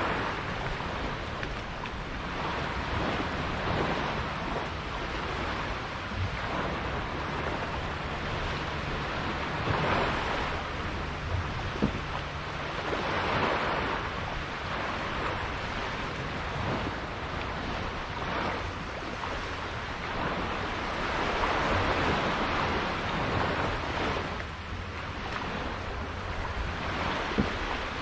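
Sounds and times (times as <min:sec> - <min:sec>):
water rushing and splashing: 0:00.0 - 0:28.0
wind buffeting microphone: 0:00.0 - 0:28.0.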